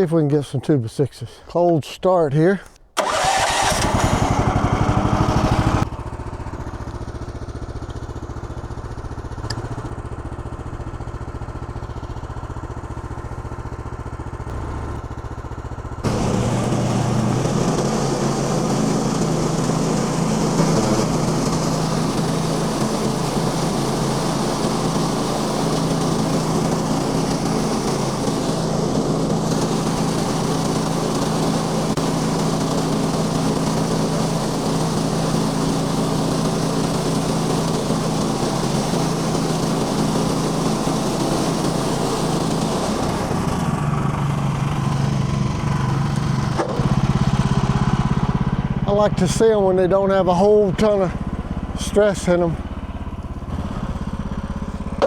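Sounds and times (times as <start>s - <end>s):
small gas engine running: 3.0s - 55.0s.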